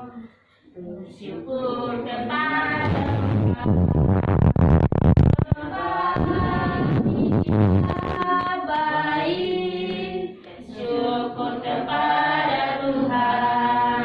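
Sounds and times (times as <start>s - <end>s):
group of voices singing: 0.0s - 3.9s, 5.4s - 14.0s.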